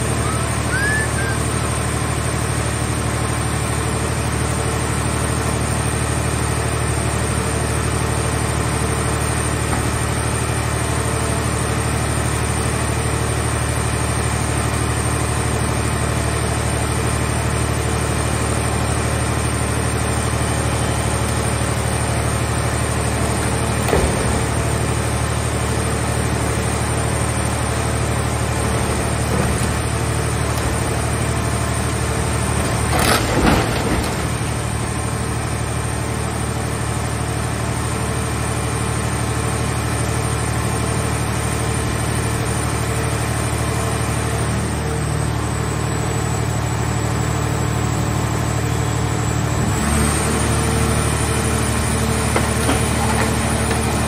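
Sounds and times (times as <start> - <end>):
hydraulic power unit running: 0.0 - 54.0.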